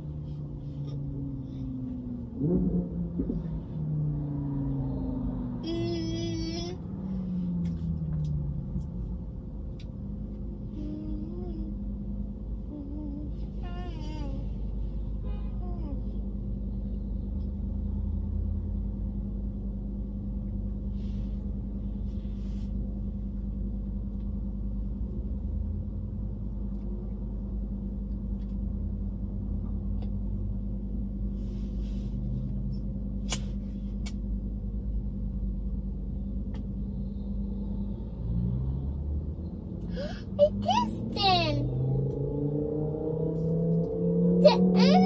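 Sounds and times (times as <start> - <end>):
car engine idling: 0.0 - 38.3.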